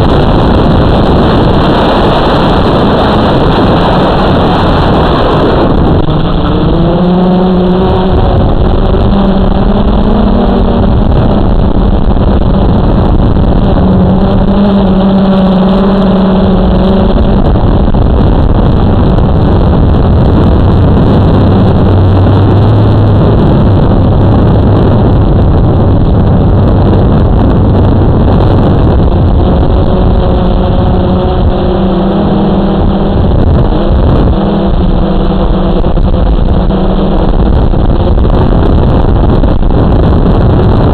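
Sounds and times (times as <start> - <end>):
quadcopter propellers buzzing: 0.0 - 40.9
wind on microphone: 0.0 - 40.9.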